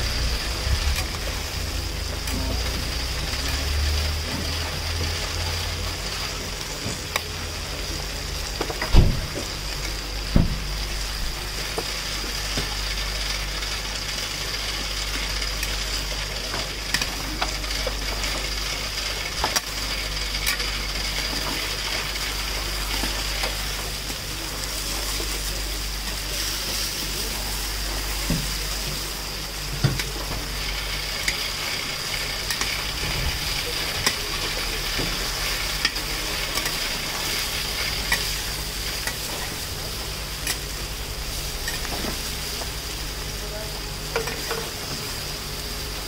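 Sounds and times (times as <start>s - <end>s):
meat sizzling in a pan: 0.0s - 46.0s.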